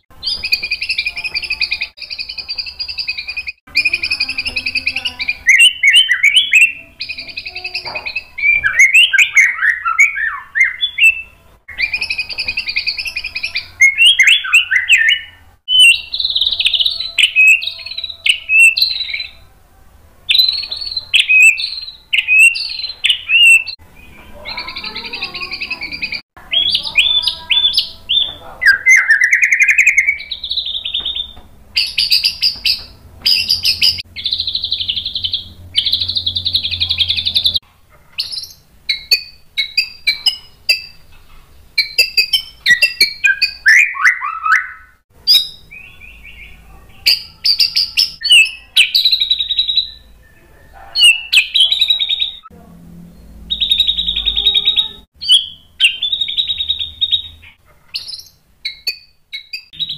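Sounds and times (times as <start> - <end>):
bird singing varied song: 0.0 - 19.6, 20.2 - 59.9.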